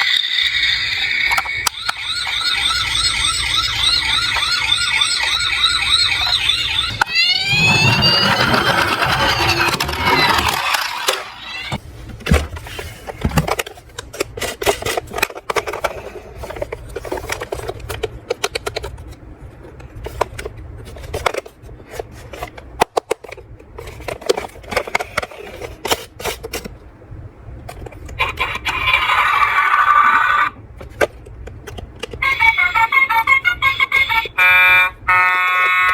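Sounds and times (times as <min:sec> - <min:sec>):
toy vehicles clattering and scraping: 0:00.0 - 0:26.8, 0:27.6 - 0:34.3.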